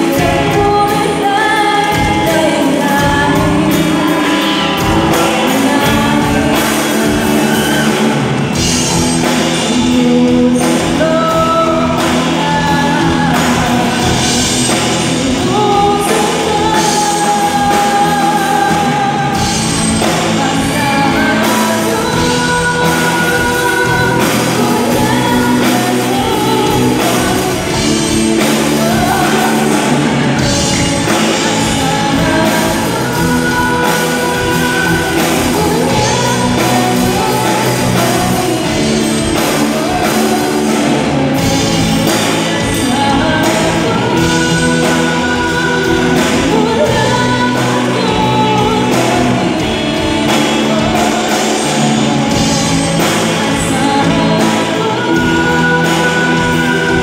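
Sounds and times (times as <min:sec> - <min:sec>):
live rock band playing: 0:00.0 - 0:57.0
woman singing lead: 0:00.0 - 0:57.0.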